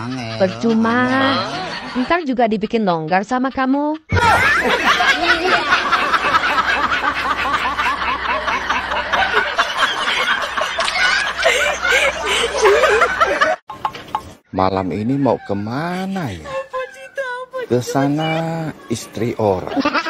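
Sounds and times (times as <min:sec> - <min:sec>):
people laughing: 0:00.0 - 0:13.7, 0:14.9 - 0:20.0.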